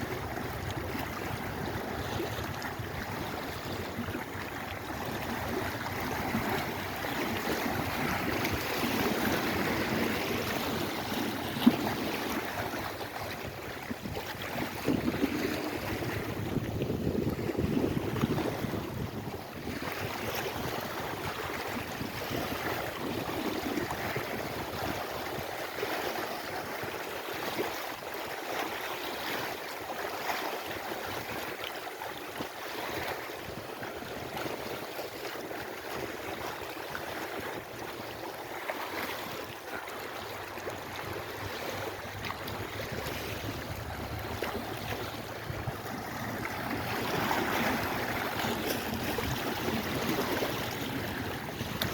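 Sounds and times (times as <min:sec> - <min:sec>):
waves washing in: 0:00.0 - 0:51.9.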